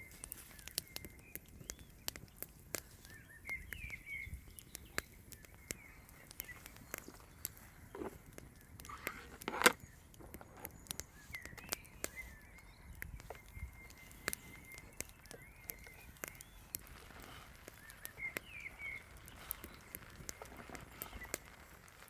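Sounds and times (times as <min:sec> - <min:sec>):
sharp clicks and snaps: 0:00.0 - 0:22.0.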